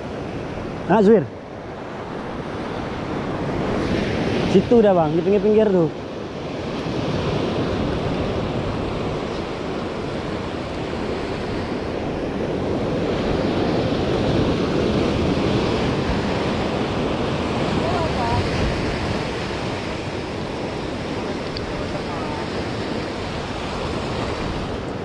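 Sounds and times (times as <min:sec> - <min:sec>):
ocean surf breaking on rocks: 0:00.0 - 0:25.0.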